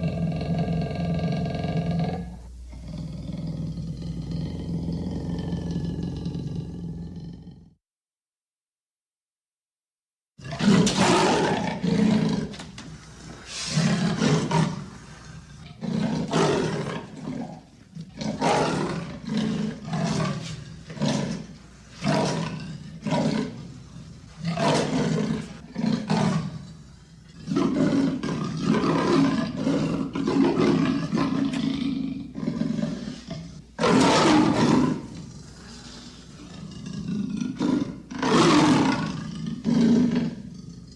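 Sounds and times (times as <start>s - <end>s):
leopard roaring: 0.0s - 7.8s, 10.4s - 12.8s, 13.5s - 40.9s.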